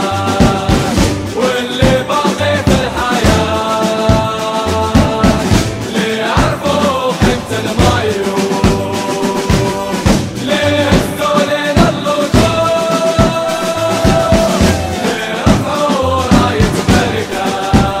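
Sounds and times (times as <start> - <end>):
group of voices singing in unison: 0.0 - 18.0
steady drum beat: 0.0 - 18.0.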